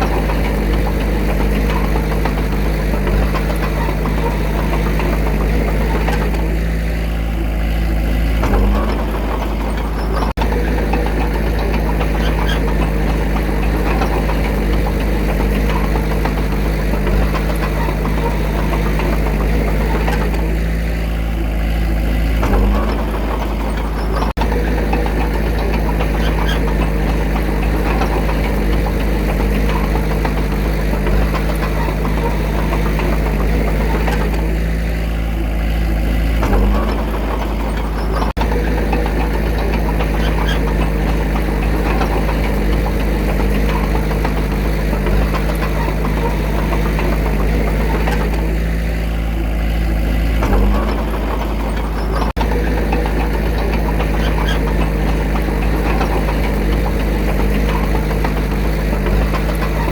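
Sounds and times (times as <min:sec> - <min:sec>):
small machine diesel engine running: 0:00.0 - 0:59.9.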